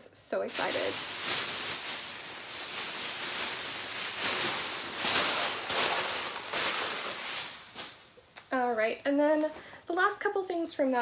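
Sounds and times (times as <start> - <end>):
fabric rustling: 0.5 - 9.6.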